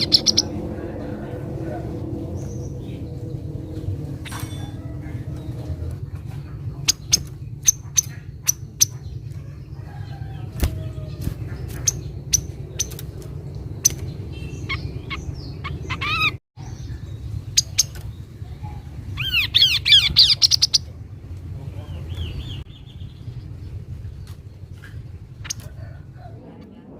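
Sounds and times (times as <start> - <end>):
bird chip notes and calls: 0.0 - 0.7, 2.2 - 25.8
steady low rumble: 0.0 - 26.9.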